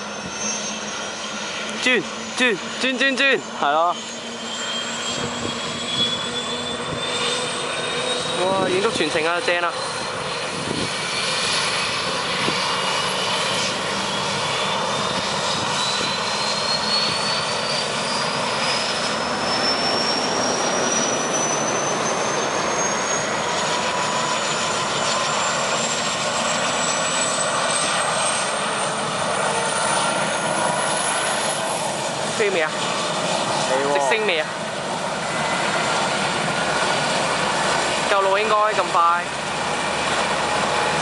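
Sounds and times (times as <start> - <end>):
helicopter turbine whine: 0.0 - 41.0
rushing engine noise: 0.0 - 41.0.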